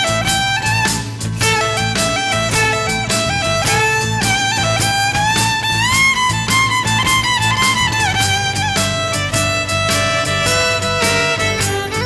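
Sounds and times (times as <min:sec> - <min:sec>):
fiddle melody with vibrato: 0:00.0 - 0:12.0
steady percussive beat: 0:00.0 - 0:12.0.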